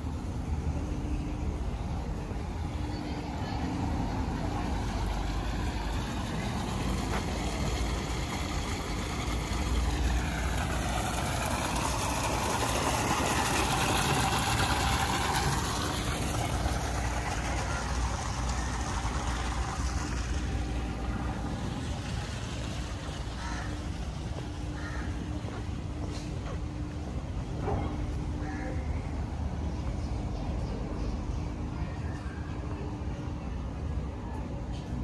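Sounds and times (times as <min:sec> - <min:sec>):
low engine rumble: 0:00.0 - 0:35.0.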